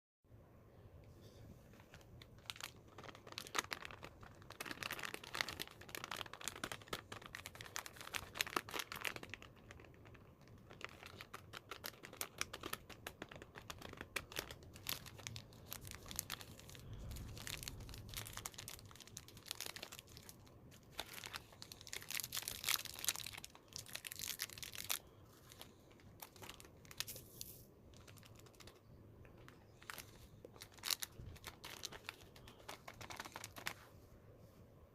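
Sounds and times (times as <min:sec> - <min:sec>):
candy wrappers crinkling and tearing: 0:01.7 - 0:33.8.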